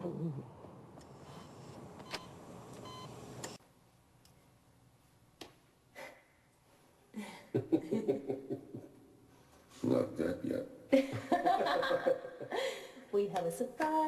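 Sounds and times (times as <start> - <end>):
soft steady background noise: 0.0 - 14.0.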